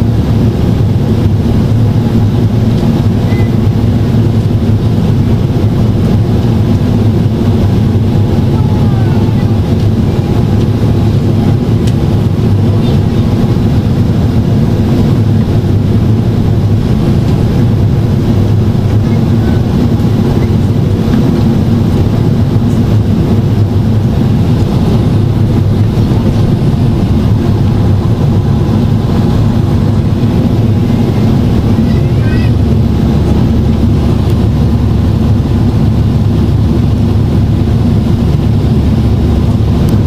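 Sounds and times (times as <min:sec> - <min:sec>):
airflow noise: 0:00.0 - 0:40.0
airplane cabin engine roar: 0:00.0 - 0:40.0.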